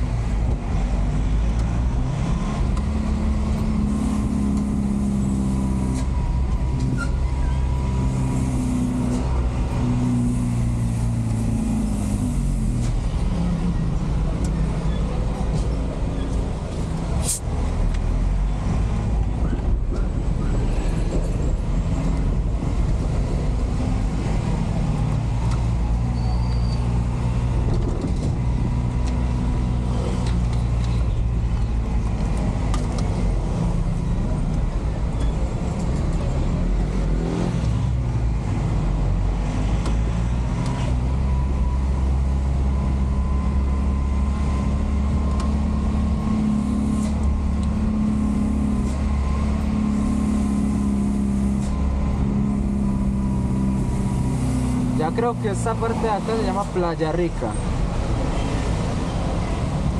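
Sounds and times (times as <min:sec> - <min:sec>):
road noise: 0:00.0 - 0:59.9
truck engine from inside cab: 0:00.0 - 0:59.9.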